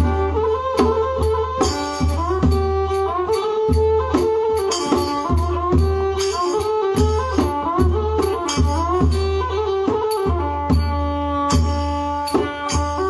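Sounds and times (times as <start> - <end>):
sliding fiddle-like melody: 0.0 - 13.0
steady drum beat: 0.0 - 13.0.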